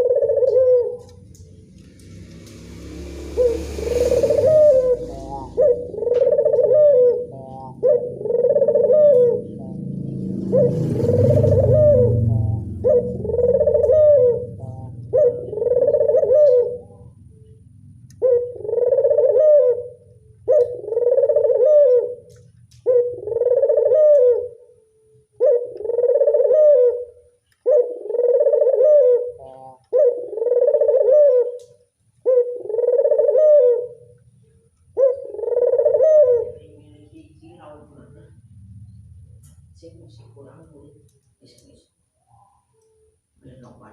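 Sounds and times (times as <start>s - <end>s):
dove cooing: 0.0s - 1.2s, 3.1s - 37.4s.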